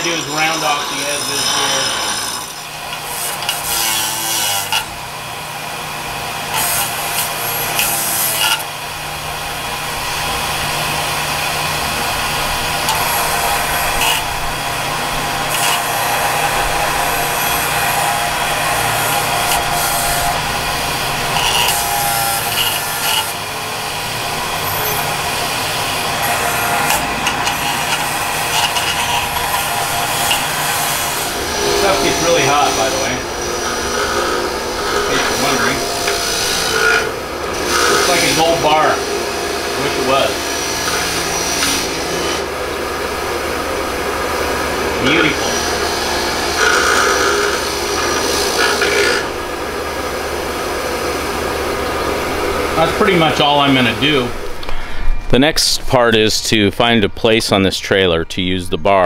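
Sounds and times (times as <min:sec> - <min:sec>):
bench grinder grinding metal: 0:00.0 - 0:54.8.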